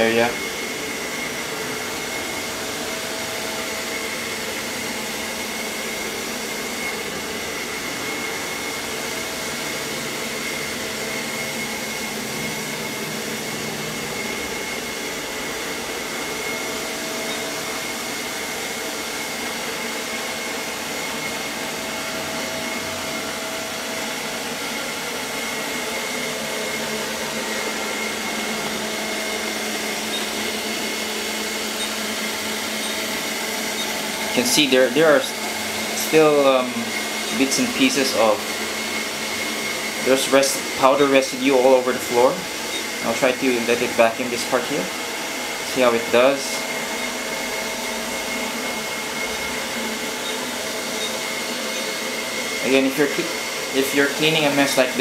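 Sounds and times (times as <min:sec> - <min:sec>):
high whine: 0:00.0 - 0:55.0
robot vacuum motor hum: 0:00.0 - 0:55.0.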